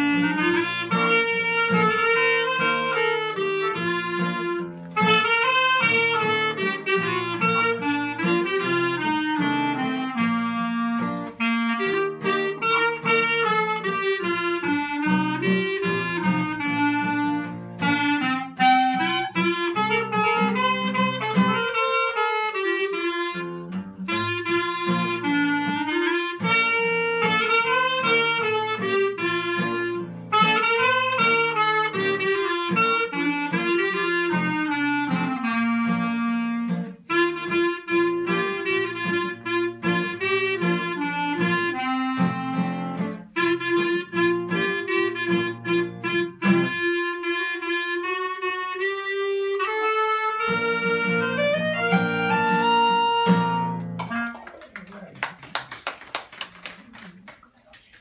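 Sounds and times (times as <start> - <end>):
clarinets playing a melody: 0.0 - 54.8
guitar accompaniment: 0.0 - 58.0.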